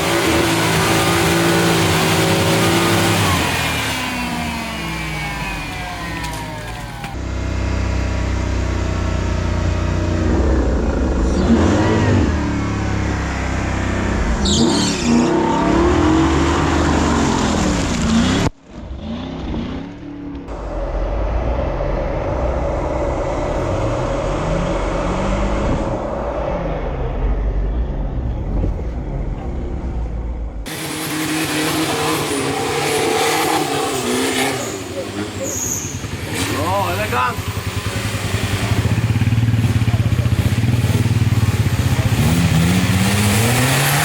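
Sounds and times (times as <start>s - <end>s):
truck engines revving hard: 0.0s - 44.0s.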